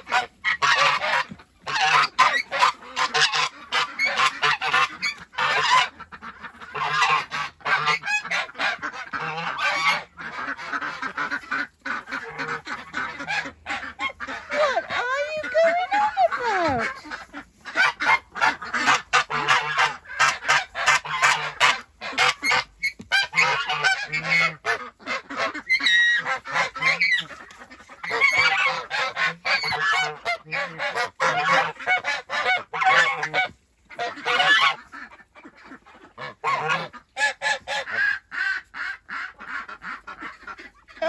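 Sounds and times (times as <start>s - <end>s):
geese honking: 0.0s - 41.0s.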